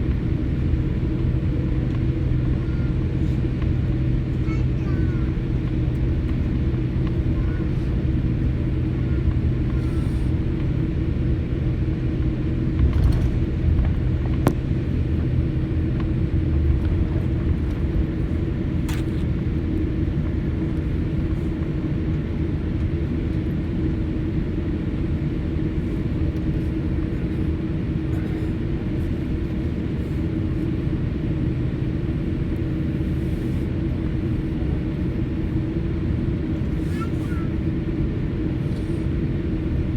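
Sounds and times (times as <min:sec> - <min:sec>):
airliner cabin hum: 0:00.0 - 0:39.9.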